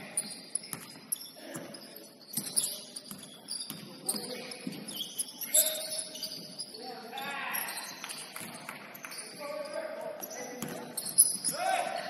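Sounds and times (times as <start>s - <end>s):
shoe squeaks: 0.0s - 12.0s.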